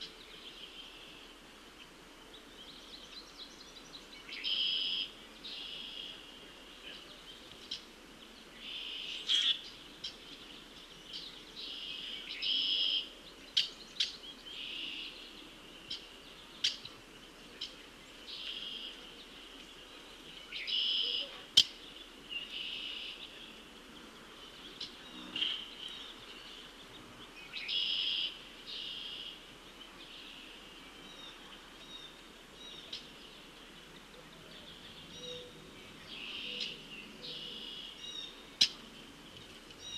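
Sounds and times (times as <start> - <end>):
buzzy bird song: 0.0 - 39.9.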